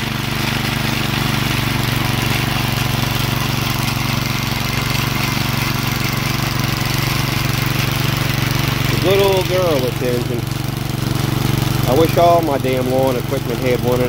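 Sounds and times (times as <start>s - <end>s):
small engine running steadily: 0.0s - 14.0s.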